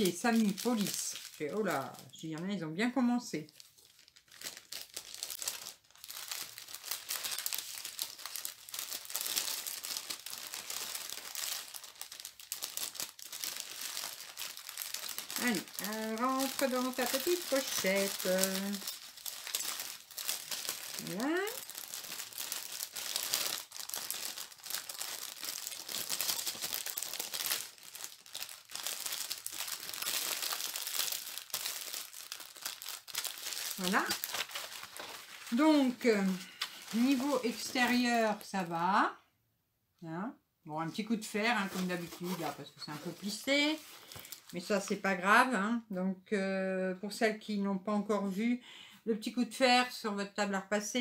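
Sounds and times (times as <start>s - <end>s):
plastic packaging crinkling: 0.0s - 38.8s, 41.2s - 45.0s.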